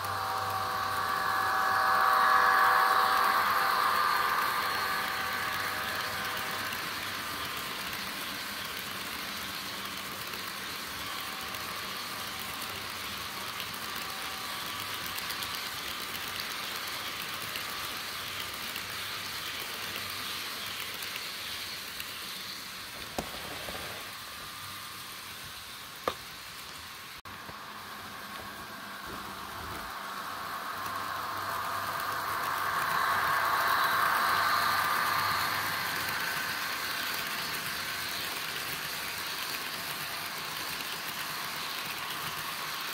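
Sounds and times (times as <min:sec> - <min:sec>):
model train rolling hiss: 0:00.0 - 0:42.9.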